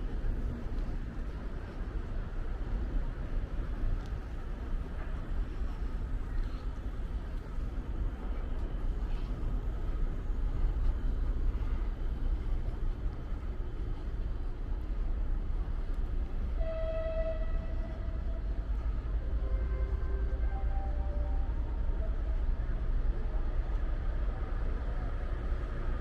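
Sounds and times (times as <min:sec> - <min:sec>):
rumble of trains and traffic: 0:00.0 - 0:26.0.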